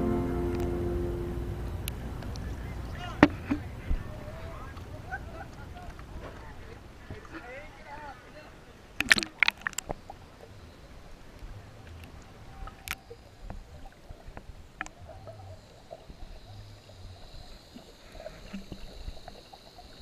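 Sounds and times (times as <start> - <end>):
water sloshing and lapping: 1.8 - 20.0.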